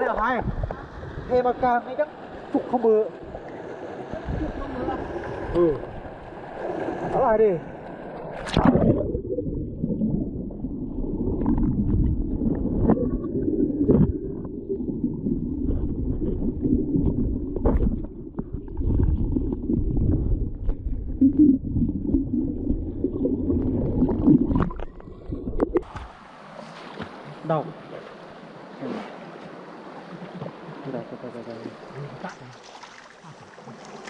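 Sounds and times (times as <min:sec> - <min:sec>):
stream water sloshing: 0:00.0 - 0:34.0.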